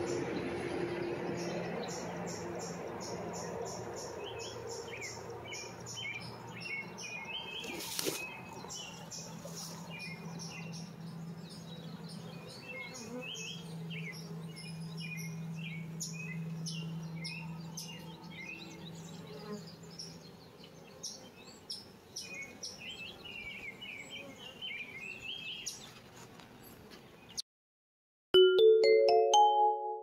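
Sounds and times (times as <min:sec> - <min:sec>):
birds chirping: 0:00.0 - 0:27.4.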